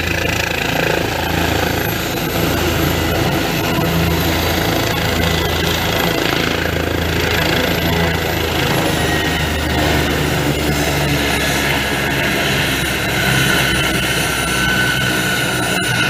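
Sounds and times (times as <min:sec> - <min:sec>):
helicopter turbine whine: 0:00.0 - 0:16.0
rotor and engine rumble: 0:00.0 - 0:16.0.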